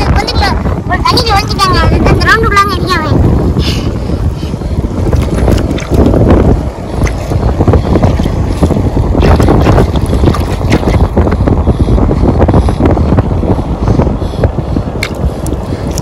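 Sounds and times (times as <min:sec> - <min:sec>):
surf washing over sand: 0:00.0 - 0:16.0
wind buffeting microphone: 0:00.0 - 0:16.0.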